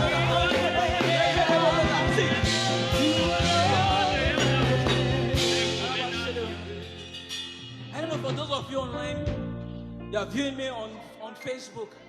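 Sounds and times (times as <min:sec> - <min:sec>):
melodic lead line: 0:00.0 - 0:11.1
live worship band: 0:00.0 - 0:12.0.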